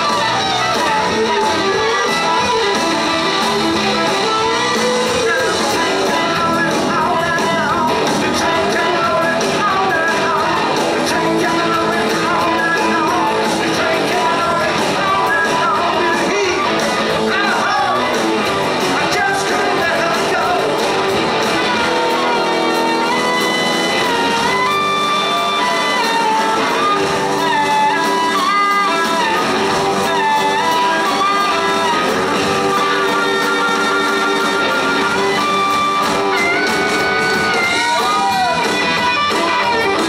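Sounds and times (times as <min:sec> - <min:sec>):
harmonica: 0:00.0 - 0:40.0
rock band playing: 0:00.0 - 0:40.0.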